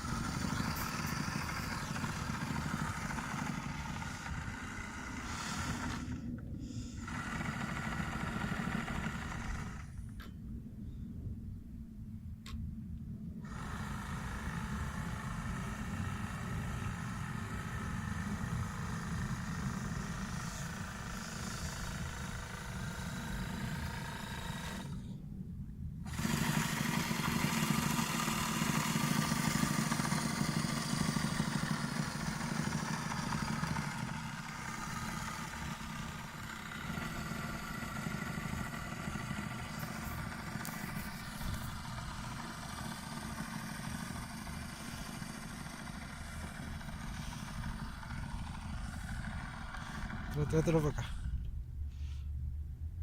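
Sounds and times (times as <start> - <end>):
model boat motor whining: 0.0 - 10.3, 13.4 - 25.2, 26.0 - 51.5.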